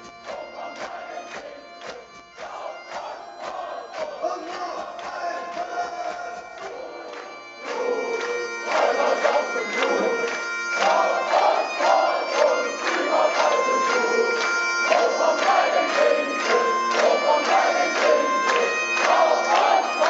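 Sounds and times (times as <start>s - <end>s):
bagpipe melody: 0.0s - 20.0s
folk metal band playing: 0.0s - 20.0s.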